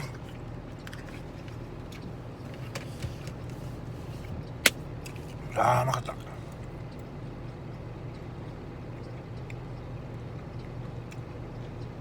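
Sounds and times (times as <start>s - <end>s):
truck engine idling hum: 0.0s - 12.0s.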